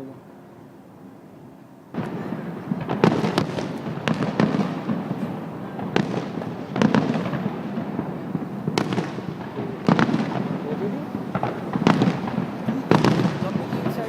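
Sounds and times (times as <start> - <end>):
fireworks bangs: 1.9 - 14.0
fireworks crackling: 1.9 - 14.0.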